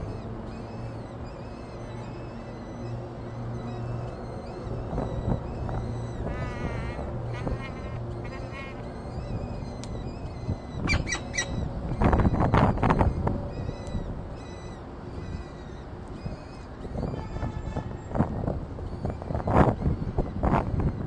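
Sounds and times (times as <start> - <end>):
chicks begging calls: 0.0 - 17.2.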